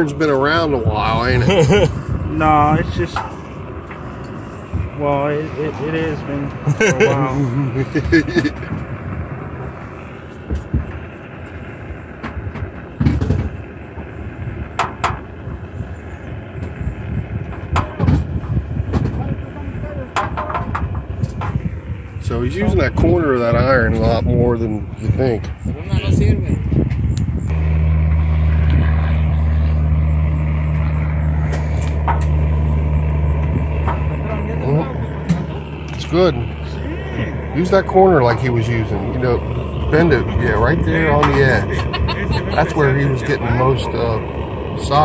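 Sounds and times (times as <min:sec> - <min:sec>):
gas burner roaring: 0:00.0 - 0:45.0
low background rumble: 0:00.0 - 0:45.0.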